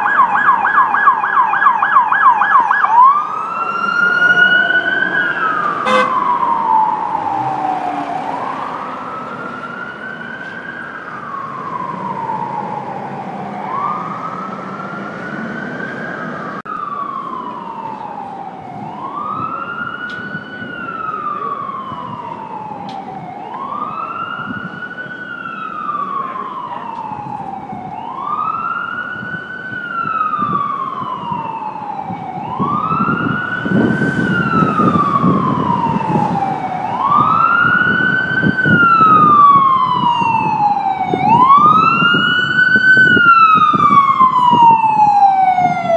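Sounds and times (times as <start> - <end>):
emergency vehicle siren wailing: 0.0 - 45.9.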